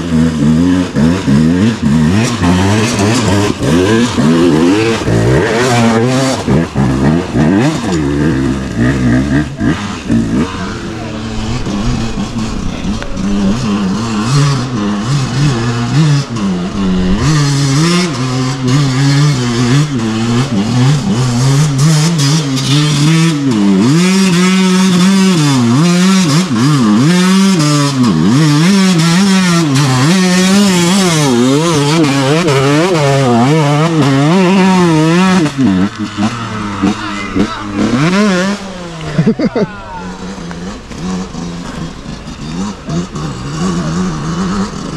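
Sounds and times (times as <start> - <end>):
dirt bike engines revving: 0.0 - 44.9.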